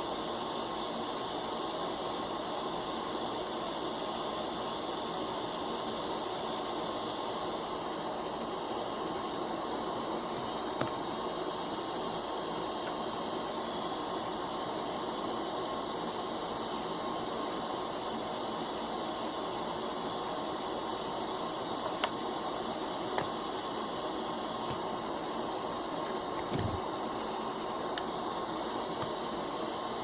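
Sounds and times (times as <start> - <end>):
fan motor hiss and hum: 0.0 - 30.0.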